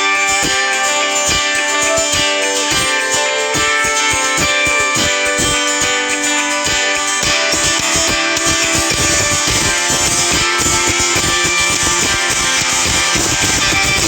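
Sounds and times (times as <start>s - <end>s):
guitar-led instrumental ringtone: 0.0s - 14.0s.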